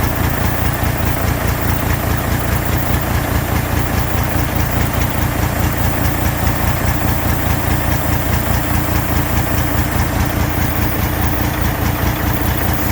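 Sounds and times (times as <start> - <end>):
diesel truck engine idling: 0.0 - 12.9.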